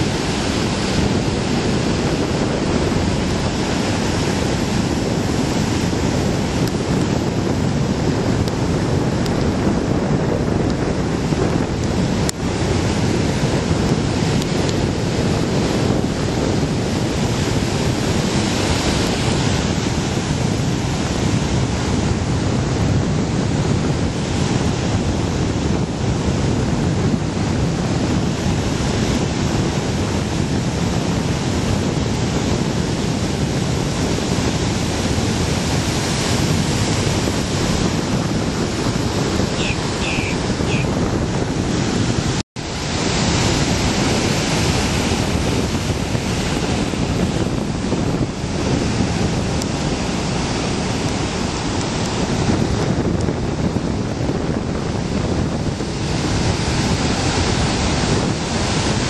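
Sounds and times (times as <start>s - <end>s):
waves breaking: 0.0s - 59.0s
wind buffeting microphone: 0.0s - 59.0s.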